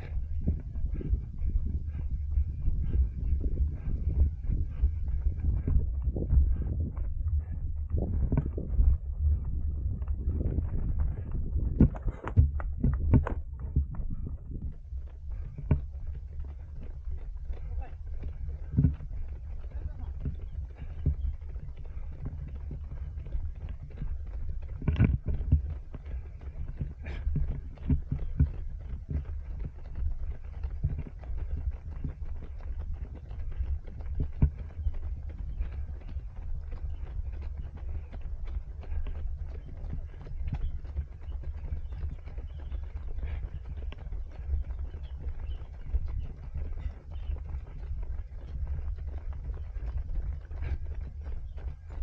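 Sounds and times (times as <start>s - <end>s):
running footsteps: 0.0s - 52.0s
wind rumble on camera: 0.0s - 52.0s.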